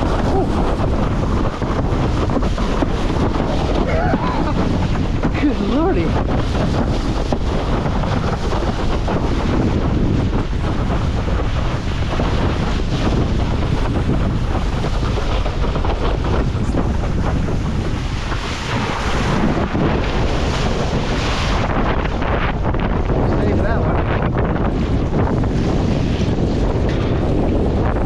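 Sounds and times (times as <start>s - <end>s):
strong wind buffeting microphone: 0.0s - 28.0s
water splashing under a board: 0.0s - 28.0s.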